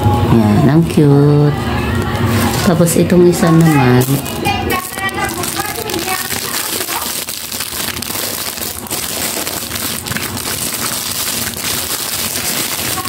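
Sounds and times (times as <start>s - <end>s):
plastic packaging crinkling: 2.4s - 13.0s.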